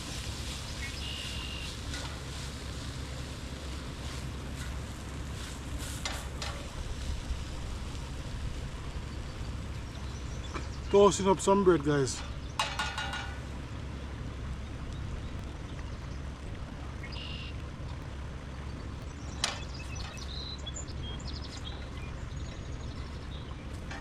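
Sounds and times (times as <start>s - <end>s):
small birds chirping: 0.0s - 7.0s, 7.7s - 12.8s, 14.3s - 23.8s.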